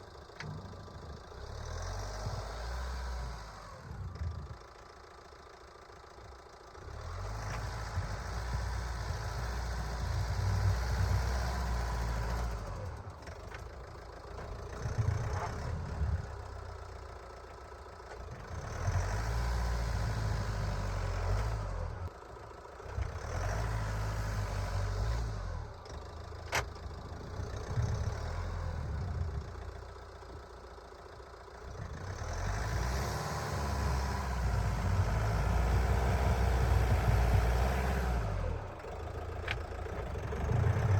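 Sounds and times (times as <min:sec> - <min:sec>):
van engine revving: 0:00.0 - 0:04.5, 0:06.8 - 0:17.4, 0:18.3 - 0:40.9.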